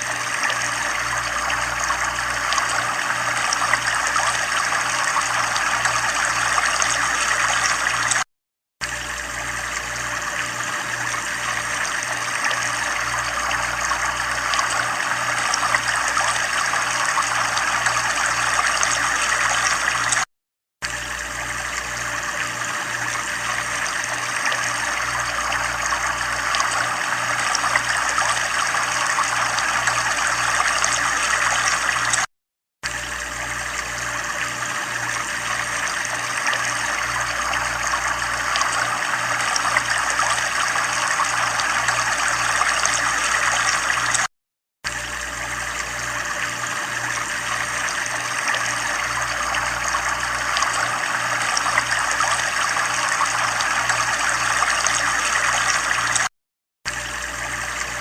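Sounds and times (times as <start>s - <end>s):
water trickling: 0.0s - 8.2s, 8.8s - 44.3s, 44.9s - 56.3s.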